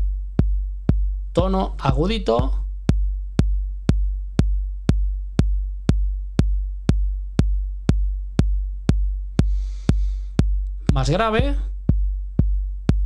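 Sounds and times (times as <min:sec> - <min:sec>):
electronic bass drum booming: 0:00.0 - 0:13.0.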